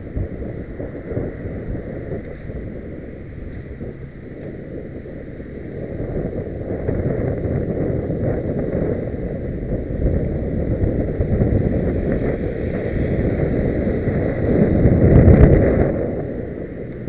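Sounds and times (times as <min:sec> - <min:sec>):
truck passing: 0:00.0 - 0:17.0
wind buffeting microphone: 0:00.0 - 0:17.0.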